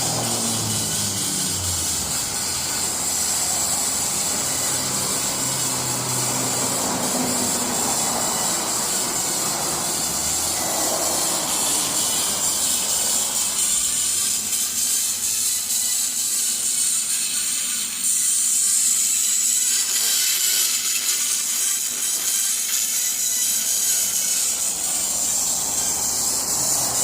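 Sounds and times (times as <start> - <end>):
electric arc hiss and buzz: 0.0 - 27.0.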